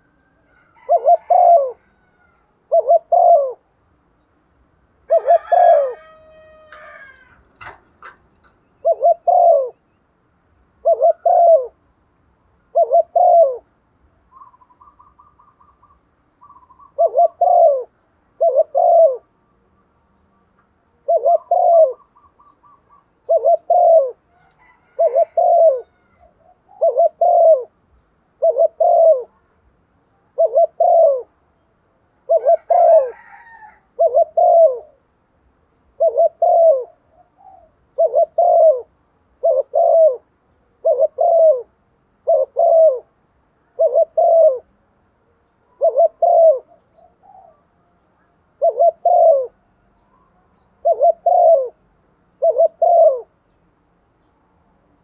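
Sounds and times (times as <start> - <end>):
dove cooing: 0.0 - 3.8, 5.0 - 10.0, 10.8 - 11.8, 12.6 - 19.4, 20.9 - 29.5, 30.2 - 31.4, 32.2 - 35.1, 35.8 - 44.8, 45.5 - 53.5.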